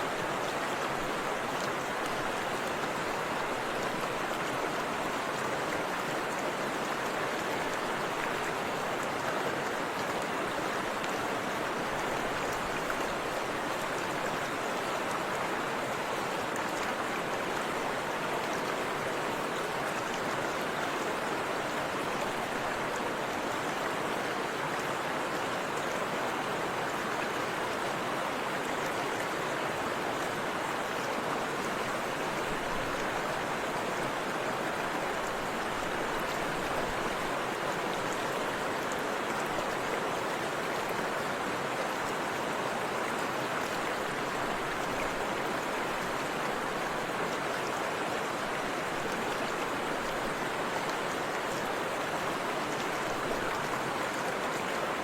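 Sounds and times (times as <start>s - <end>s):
river and waterfall rushing: 0.0s - 55.0s.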